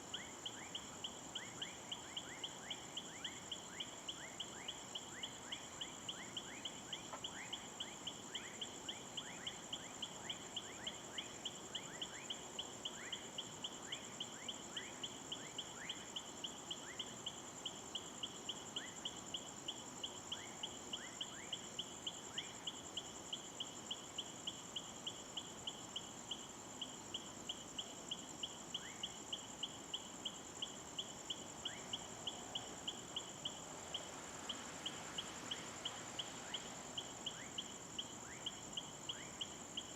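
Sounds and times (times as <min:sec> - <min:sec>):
insects trilling: 0:00.0 - 0:39.9
sharp insect chirp: 0:00.0 - 0:39.9.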